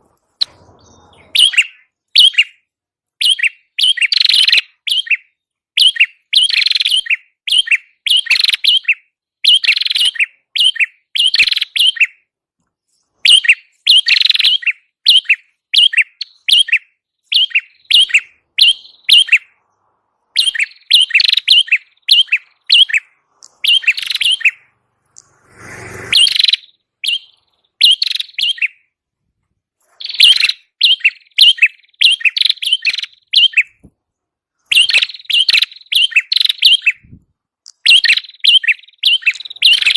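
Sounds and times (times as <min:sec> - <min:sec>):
bird chirping sharply: 0:00.0 - 0:12.3, 0:12.9 - 0:29.0, 0:29.8 - 0:33.9, 0:34.7 - 0:39.9.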